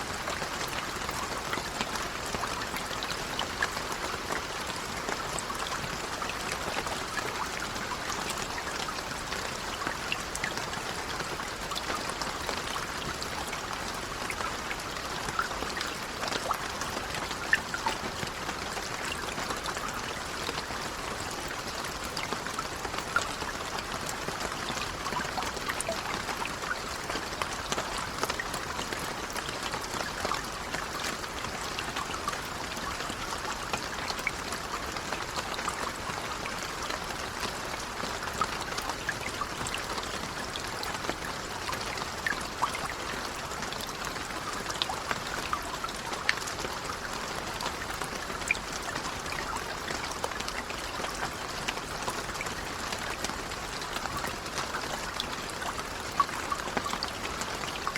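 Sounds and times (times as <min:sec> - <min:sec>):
gentle rain hiss: 0:00.0 - 0:57.9
raindrops pattering: 0:00.0 - 0:57.9.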